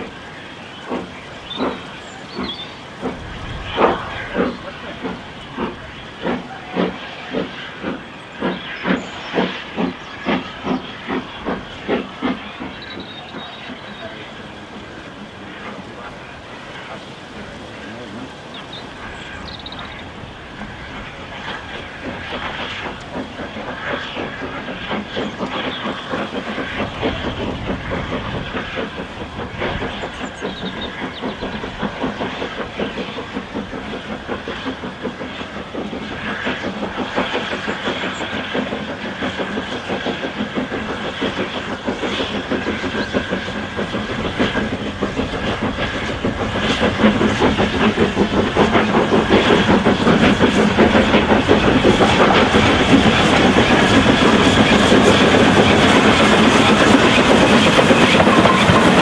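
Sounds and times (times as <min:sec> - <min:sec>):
steam hiss: 0:00.0 - 0:59.0
steam locomotive exhaust beating: 0:00.0 - 0:59.0
wheel and rail clatter: 0:00.0 - 0:59.0.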